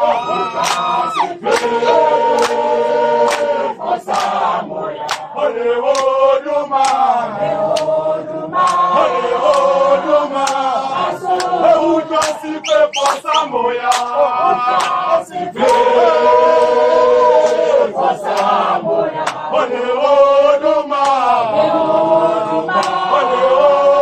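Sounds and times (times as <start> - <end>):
group of voices singing: 0.0 - 24.0.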